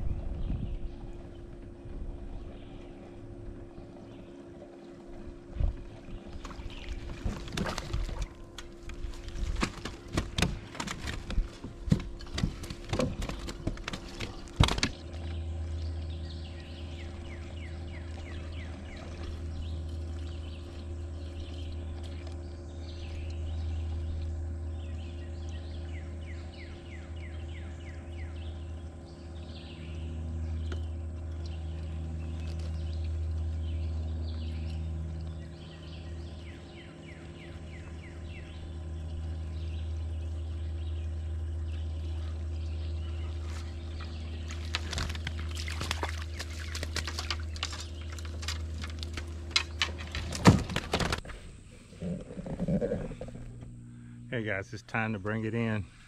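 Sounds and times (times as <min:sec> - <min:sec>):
steady low hum: 0:00.0 - 0:56.0
birds chirping: 0:00.3 - 0:56.0.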